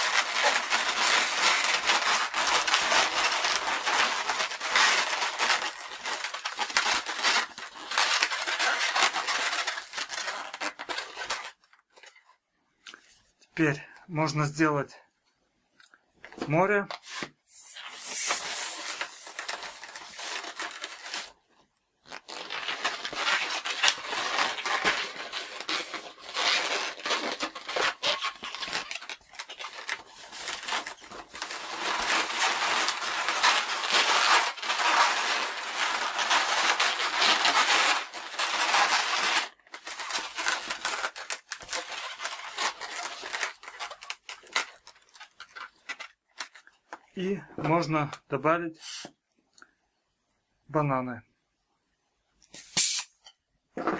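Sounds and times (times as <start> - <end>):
balloons squeaking and rubbing: 0.0 - 12.0, 17.0 - 21.4, 22.0 - 47.8, 48.8 - 49.1, 52.6 - 53.2.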